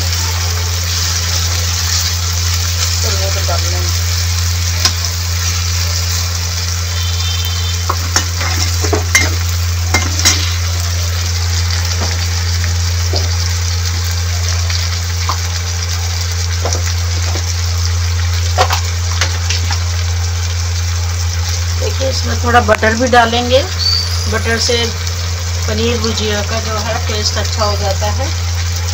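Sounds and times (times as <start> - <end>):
vegetables sizzling in oil: 0.0 - 28.9.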